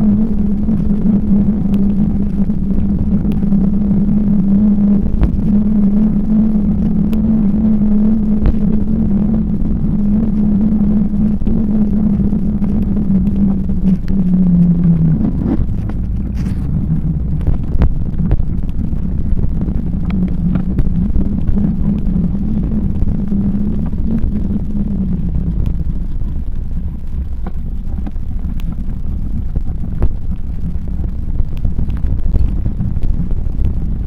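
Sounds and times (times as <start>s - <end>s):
bicycle tyres rolling: 0.0s - 34.0s
low hum: 0.0s - 34.0s
wind buffeting microphone: 0.0s - 34.0s.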